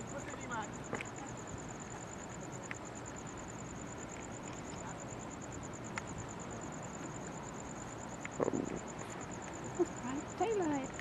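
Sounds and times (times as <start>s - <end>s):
insect chirping: 0.0s - 11.0s
outdoor background hiss: 0.0s - 11.0s.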